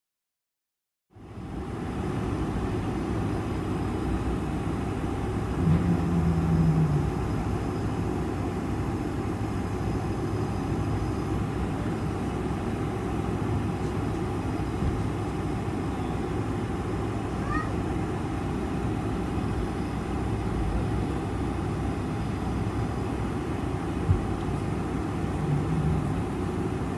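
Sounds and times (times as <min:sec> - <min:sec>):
aircraft cabin low rumble: 0:01.2 - 0:26.9
low hum: 0:01.2 - 0:26.9.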